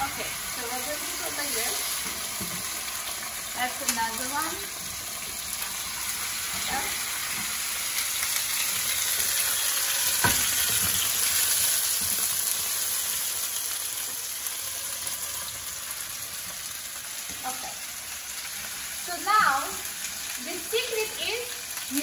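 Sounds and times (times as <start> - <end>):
steaks sizzling in frying pan: 0.0 - 22.0.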